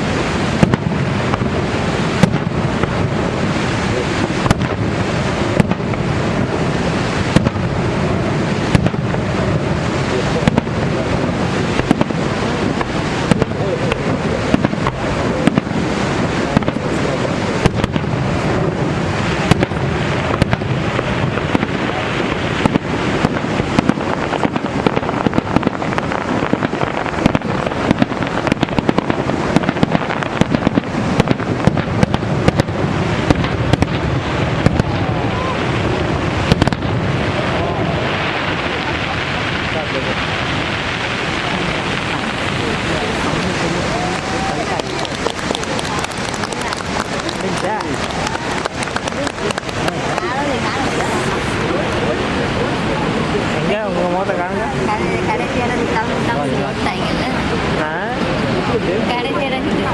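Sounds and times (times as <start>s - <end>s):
fireworks bangs and cracks: 0.0s - 59.9s
waterfall roaring: 0.0s - 59.9s.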